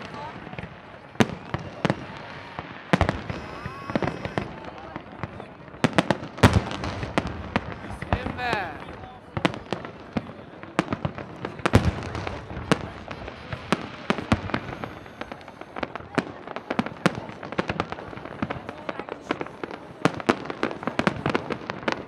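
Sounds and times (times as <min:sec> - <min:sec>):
fireworks bursting with bangs: 0:00.0 - 0:22.0
fireworks crackle: 0:00.0 - 0:22.0.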